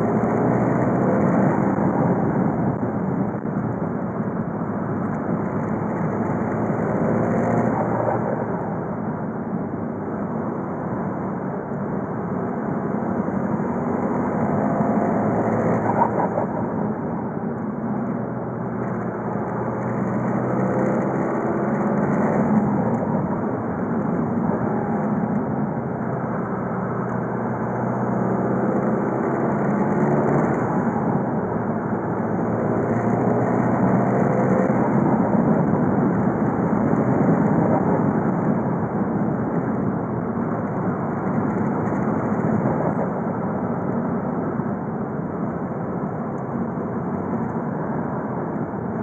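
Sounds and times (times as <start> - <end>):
road noise: 0.0 - 49.0.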